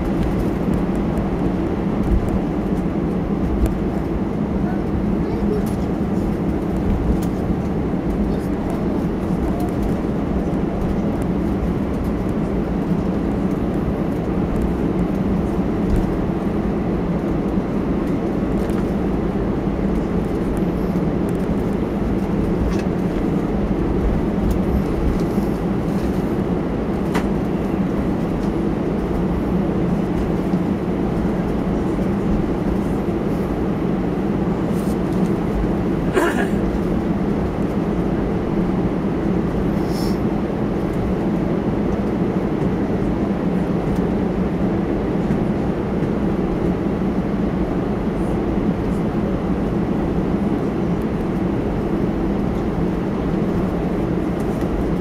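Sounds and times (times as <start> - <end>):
airframe rumble on taxiway: 0.0 - 55.0
jet engines idling: 0.0 - 55.0.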